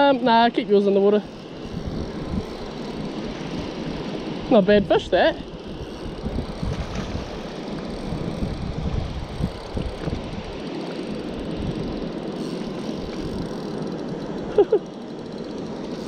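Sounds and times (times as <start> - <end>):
wind buffeting microphone: 0.3 - 14.4.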